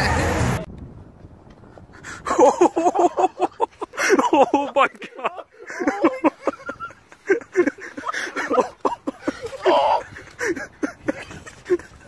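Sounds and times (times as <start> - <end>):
people exclaiming and laughing: 2.2 - 12.0.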